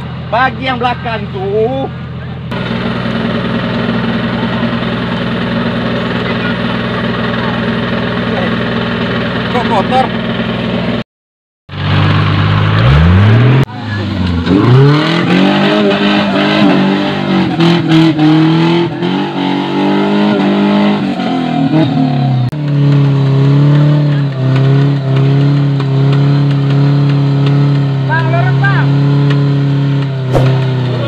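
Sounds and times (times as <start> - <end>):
off-road engine revving: 0.0 - 11.0, 11.7 - 31.0.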